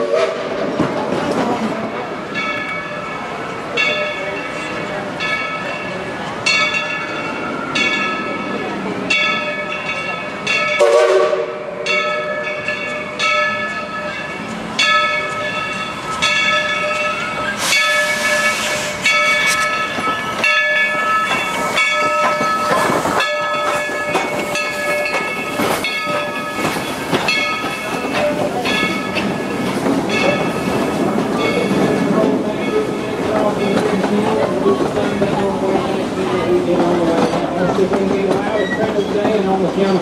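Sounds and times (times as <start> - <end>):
passenger cars rumbling on rails: 0.0 - 40.0
steam locomotive bell ringing: 1.9 - 37.8.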